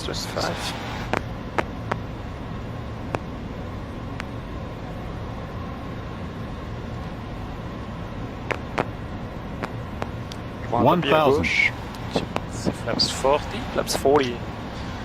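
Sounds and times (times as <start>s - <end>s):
airflow and jet engine noise: 0.0s - 15.0s.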